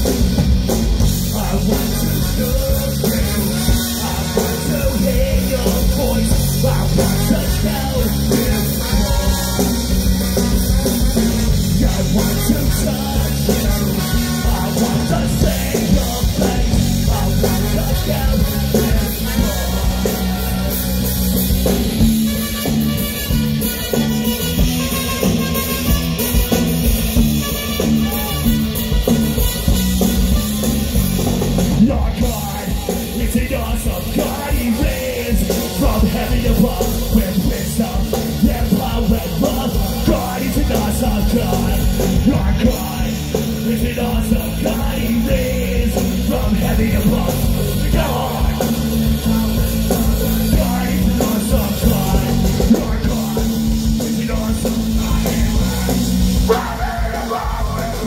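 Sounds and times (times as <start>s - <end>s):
rock music with drums: 0.0s - 58.0s.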